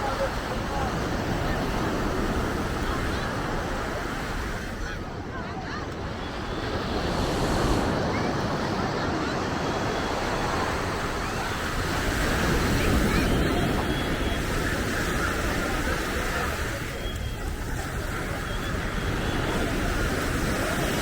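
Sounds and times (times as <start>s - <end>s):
surf breaking on a beach: 0.0s - 21.0s.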